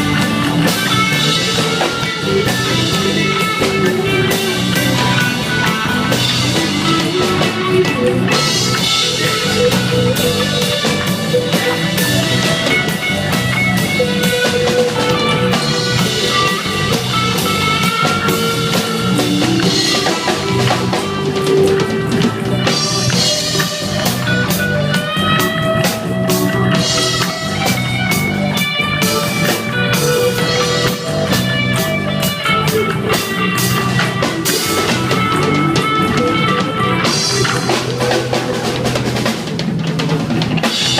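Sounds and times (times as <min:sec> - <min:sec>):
reggae dub band playing: 0:00.0 - 0:40.9.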